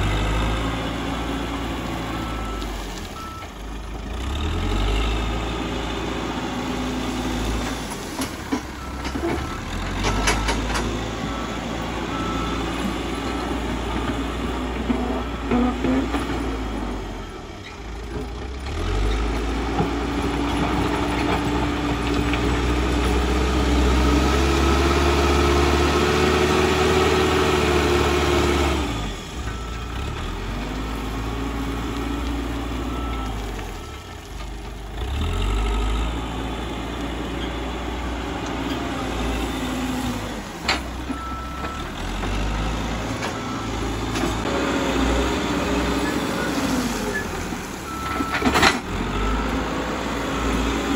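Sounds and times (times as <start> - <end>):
diesel engine revving: 0.0 - 50.9.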